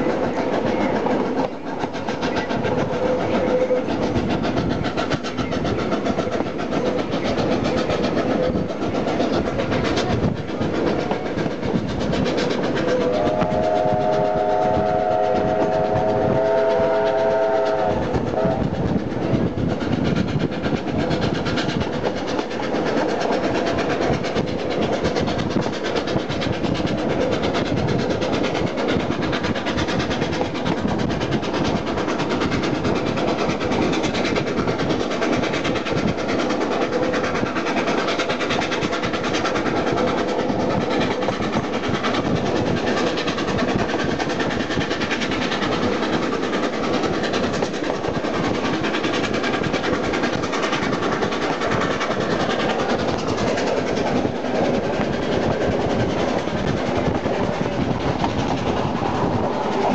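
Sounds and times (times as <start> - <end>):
steam train running: 0.0 - 59.9.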